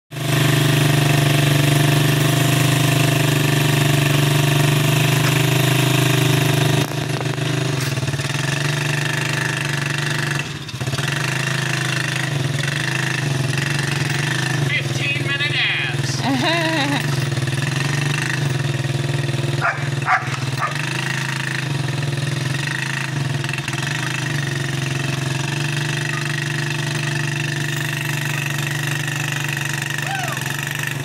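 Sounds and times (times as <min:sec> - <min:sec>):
atv engine running: 0:00.1 - 0:31.0.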